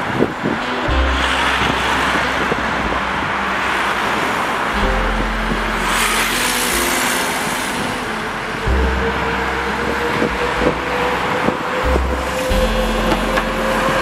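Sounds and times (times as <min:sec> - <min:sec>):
background music held notes: 0:00.0 - 0:14.0
car tyre noise passing: 0:00.0 - 0:14.0
city bus driving: 0:00.0 - 0:14.0.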